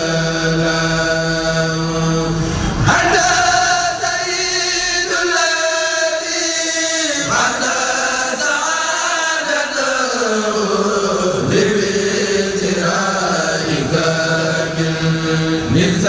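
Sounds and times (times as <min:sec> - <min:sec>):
group of voices chanting: 0:02.8 - 0:16.0.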